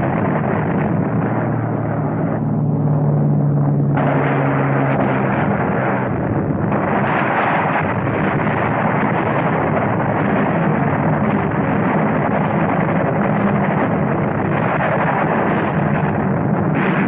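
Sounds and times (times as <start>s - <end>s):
muffled explosions and rumbling: 0.0s - 17.0s.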